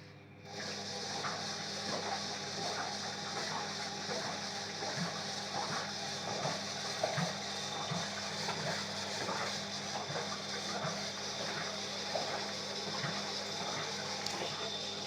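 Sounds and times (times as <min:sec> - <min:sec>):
washing machine hum: 0:00.0 - 0:15.0.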